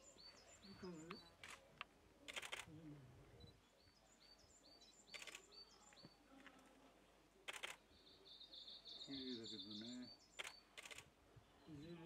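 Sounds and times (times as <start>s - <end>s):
songbird chirping: 0.0s - 2.7s, 3.3s - 12.0s.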